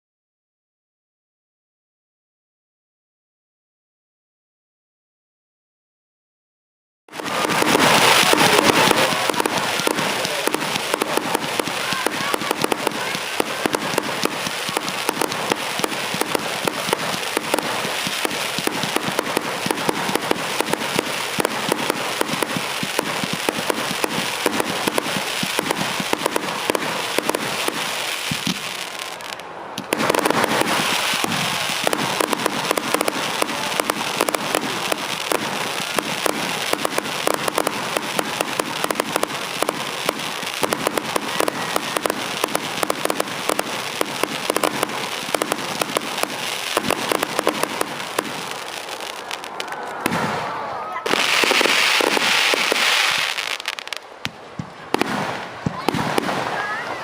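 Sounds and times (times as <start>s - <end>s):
fireworks crackling: 7.1s - 57.0s.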